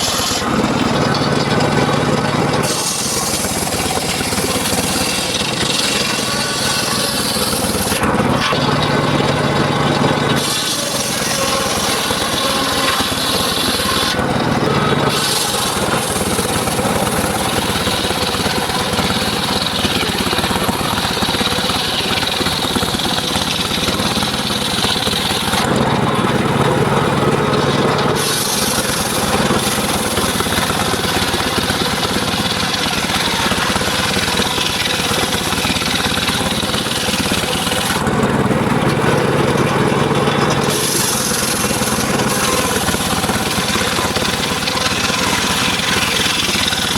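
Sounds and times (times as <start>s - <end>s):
saw blade cutting wood: 0.0s - 46.9s
sawmill engine hum: 0.0s - 46.9s.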